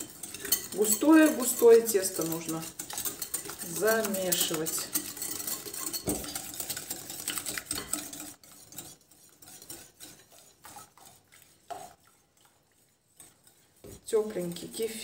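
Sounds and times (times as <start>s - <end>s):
whisk clinking against bowl: 0.0s - 15.0s.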